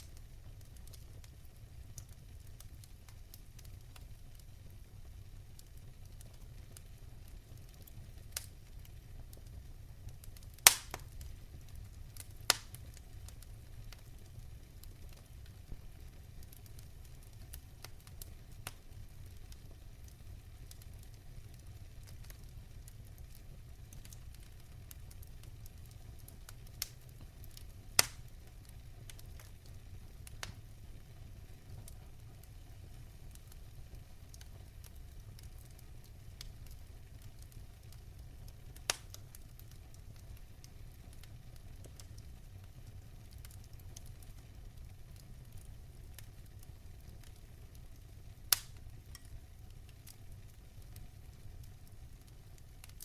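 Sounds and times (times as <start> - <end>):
fire crackles and pops: 0.0 - 53.0
fire low rumble: 0.0 - 53.0.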